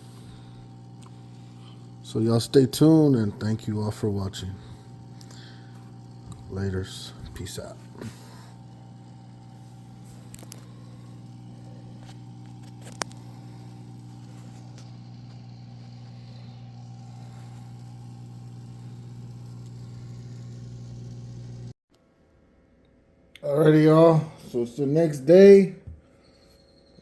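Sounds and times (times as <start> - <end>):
low mechanical hum: 0.0 - 21.8.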